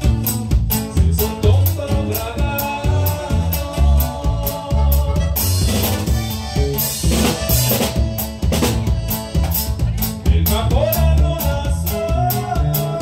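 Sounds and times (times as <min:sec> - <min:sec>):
drum beat: 0:00.0 - 0:13.0
electric bass: 0:00.0 - 0:13.0.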